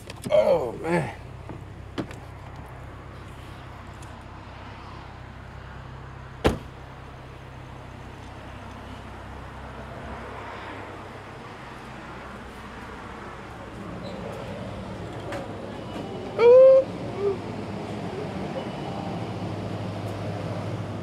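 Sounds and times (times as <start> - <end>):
road hum inside vehicle: 0.0 - 21.0.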